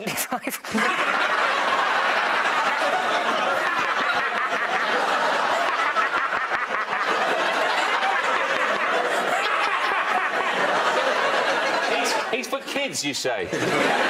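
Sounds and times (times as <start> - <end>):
studio audience laughing: 0.6 - 14.0.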